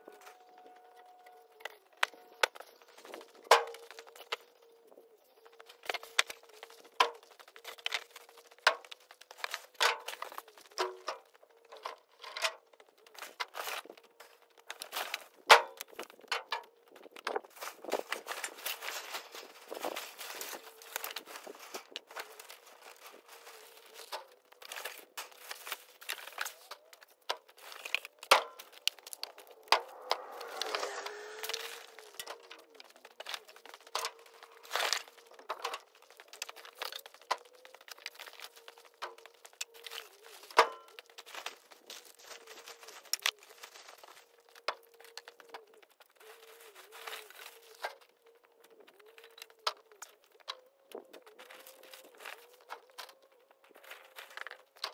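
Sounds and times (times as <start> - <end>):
plastic sheeting crinkling: 0.0 - 54.9.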